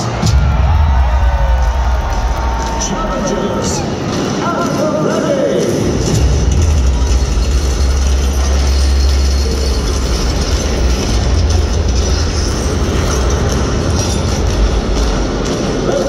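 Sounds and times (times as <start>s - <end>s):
deep rumble over sound system: 0.1s - 4.0s, 5.5s - 16.0s.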